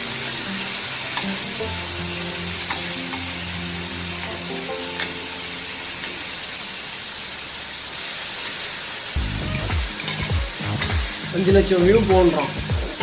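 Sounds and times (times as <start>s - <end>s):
background music: 0.0s - 6.9s, 9.2s - 13.0s
fish sizzling in hot oil: 0.0s - 13.0s.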